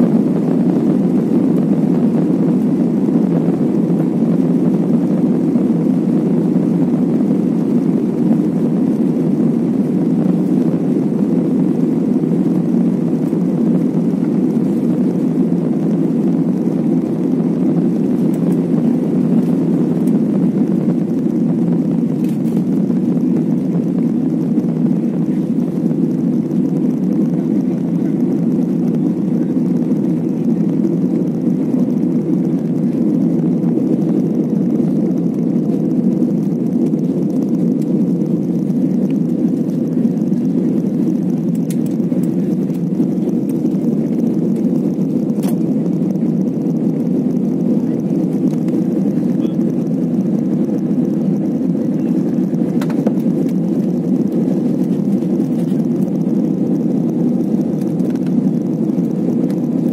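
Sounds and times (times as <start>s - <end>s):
jet engines and airflow in cabin: 0.0s - 59.9s.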